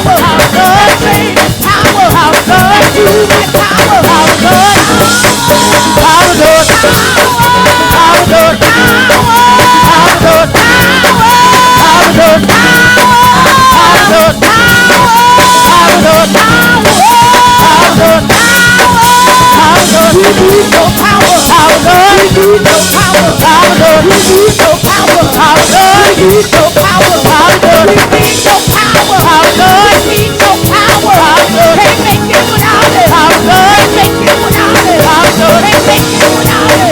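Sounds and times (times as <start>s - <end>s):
drum kit beat: 0.0s - 36.9s
gospel band playing: 0.0s - 36.9s
person singing: 0.0s - 36.9s.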